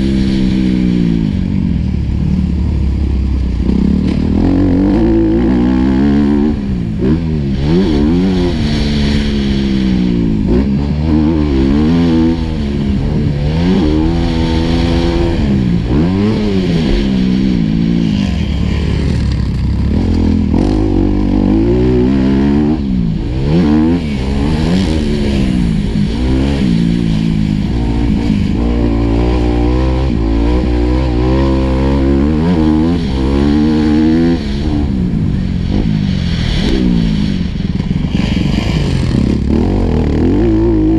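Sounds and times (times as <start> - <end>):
motocross bike engine revving: 0.0 - 2.6, 3.5 - 40.9.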